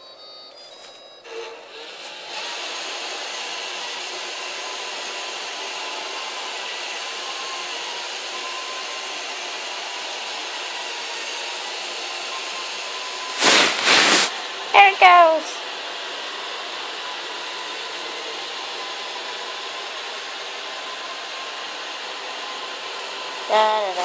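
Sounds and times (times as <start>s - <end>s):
robot vacuum running: 1.2s - 24.0s.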